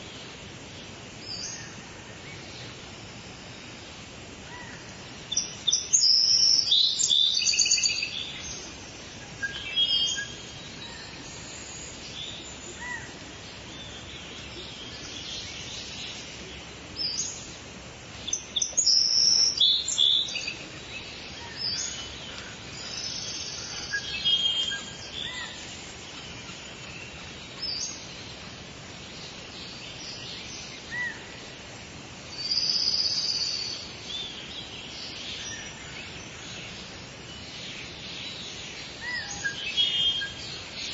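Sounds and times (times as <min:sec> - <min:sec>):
songbirds chirping and singing: 0:00.0 - 0:40.9
steady background hiss: 0:00.0 - 0:40.9.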